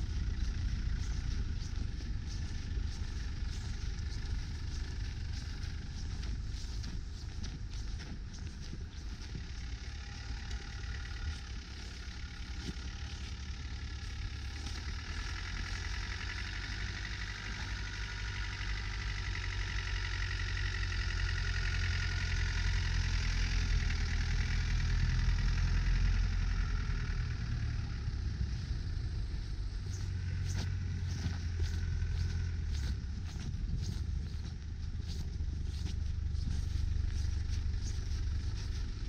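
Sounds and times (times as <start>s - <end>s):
vehicle engine at low revs: 0.0s - 39.0s.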